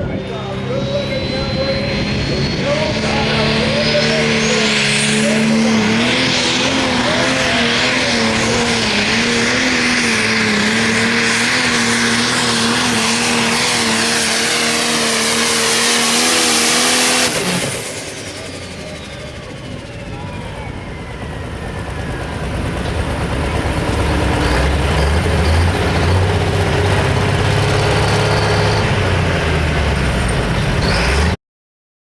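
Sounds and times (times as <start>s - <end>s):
diesel tractor engine under load: 0.0s - 31.4s.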